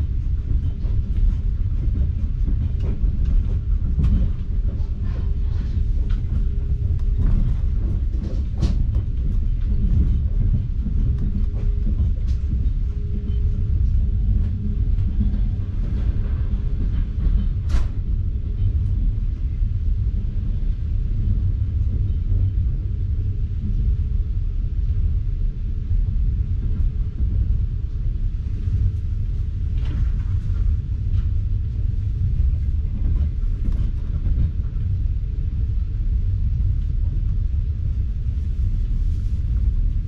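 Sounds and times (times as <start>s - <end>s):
faint hum: 0.0s - 40.0s
train running rumble: 0.0s - 40.0s.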